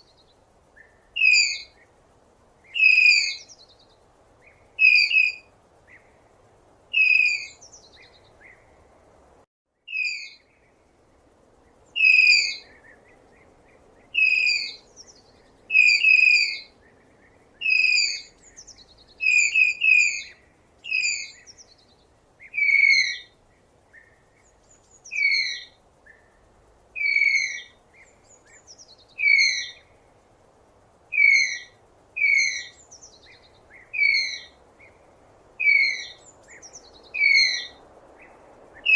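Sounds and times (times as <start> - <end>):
faint background hiss: 0.0 - 38.9.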